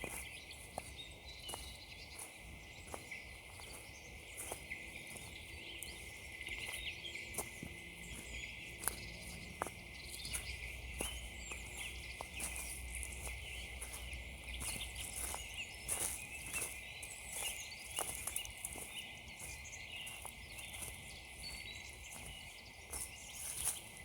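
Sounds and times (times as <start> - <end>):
faint birds chirping: 0.0 - 24.0
footsteps crunching on frozen ground: 0.0 - 24.0.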